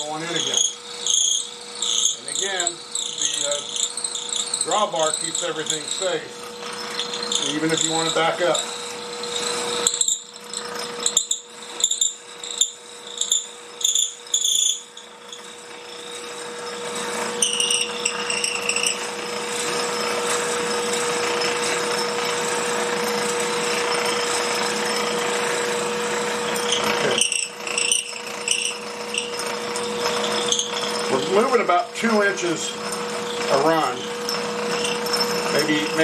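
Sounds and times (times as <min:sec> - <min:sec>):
drill bit cutting wood: 0:00.0 - 0:36.0
wood lathe humming: 0:00.0 - 0:36.0.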